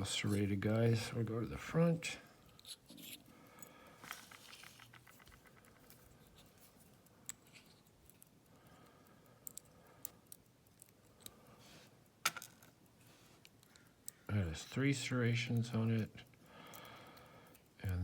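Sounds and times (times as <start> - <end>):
small metal clicks and scrapes: 2.4 - 18.0.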